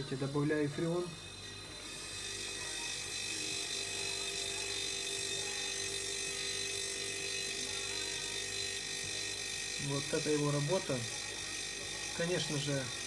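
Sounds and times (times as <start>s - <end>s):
refrigerator compressor hum: 0.0s - 13.0s.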